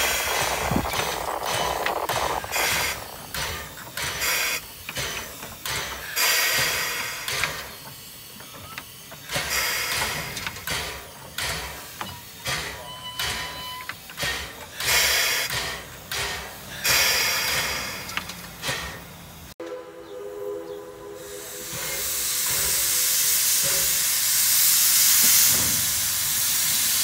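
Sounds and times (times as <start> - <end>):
steam hissing: 0.0 - 19.6, 20.4 - 27.0
steam locomotive chuffing: 0.0 - 27.0.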